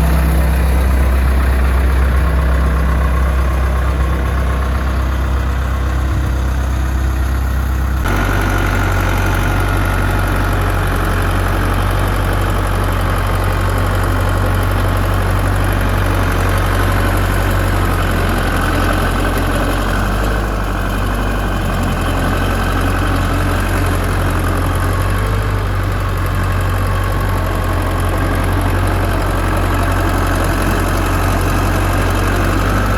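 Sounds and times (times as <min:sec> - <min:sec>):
diesel engine running: 0:00.0 - 0:32.9
steady mechanical whine: 0:00.0 - 0:32.9.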